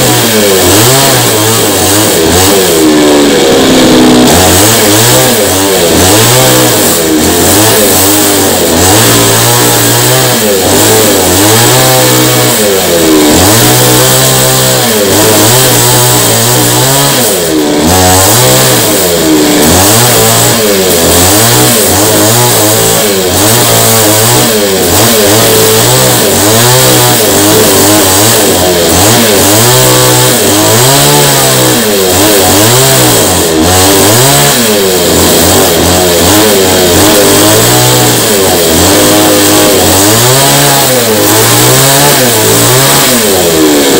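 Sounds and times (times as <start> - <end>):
chainsaw revving: 0.0 - 43.9.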